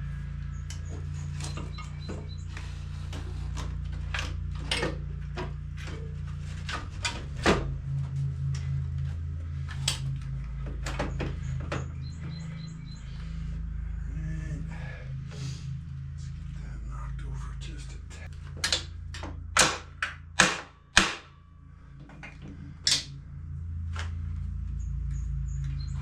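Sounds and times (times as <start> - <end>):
background music with bass: 0.0 - 26.0.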